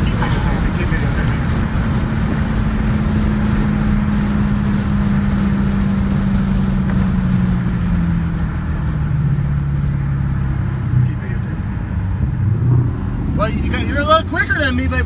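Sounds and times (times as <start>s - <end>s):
car engine at low revs: 0.0s - 15.0s
road rumble: 0.0s - 15.0s.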